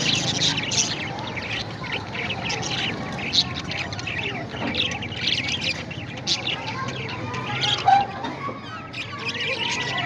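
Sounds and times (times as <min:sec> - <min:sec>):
parrots squawking and chirping: 0:00.0 - 0:10.0.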